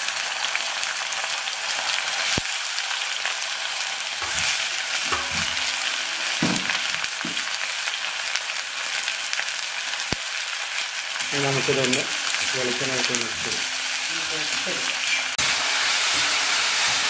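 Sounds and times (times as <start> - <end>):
gourd frying in oil: 0.0 - 17.0.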